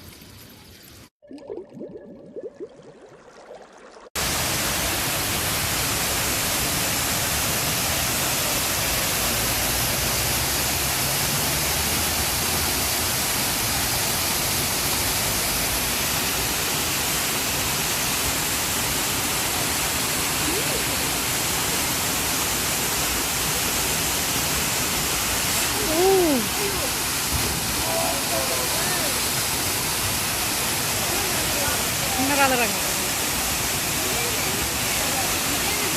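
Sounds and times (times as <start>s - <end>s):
waterfall rushing: 4.2s - 35.9s.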